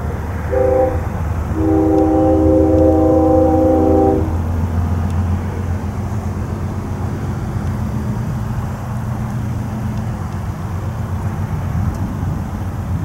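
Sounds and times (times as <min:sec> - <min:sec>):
diesel locomotive engine rumble: 0:00.0 - 0:13.0
train rolling noise: 0:00.0 - 0:13.0.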